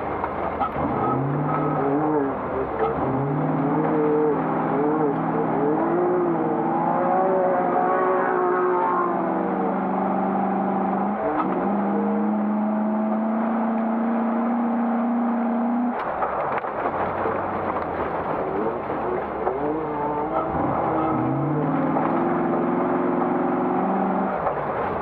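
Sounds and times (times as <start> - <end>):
engine revving: 0.0 - 16.2, 17.0 - 25.0.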